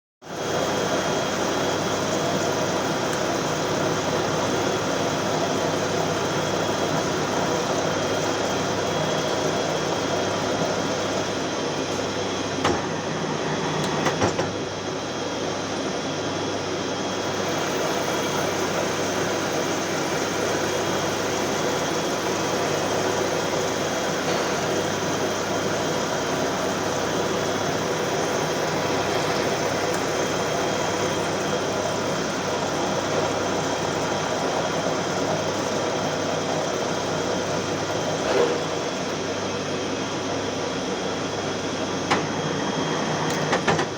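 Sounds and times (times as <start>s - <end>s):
lathe running: 0.4s - 43.9s.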